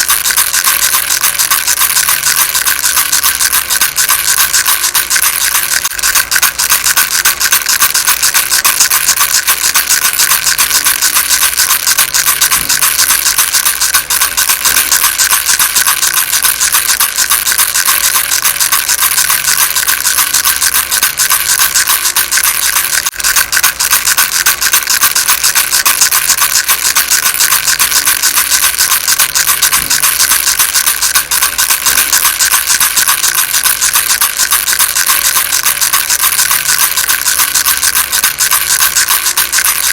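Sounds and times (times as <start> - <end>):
rattle shaken: 0.0 - 39.9.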